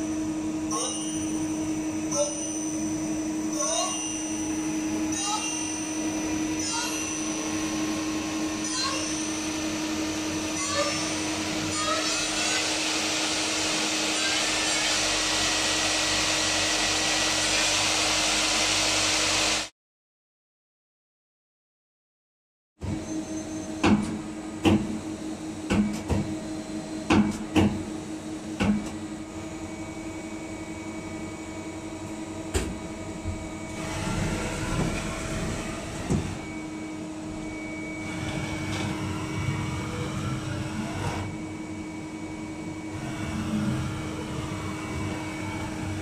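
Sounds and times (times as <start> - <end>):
lathe humming and whirring: 0.0 - 19.7, 27.9 - 46.0.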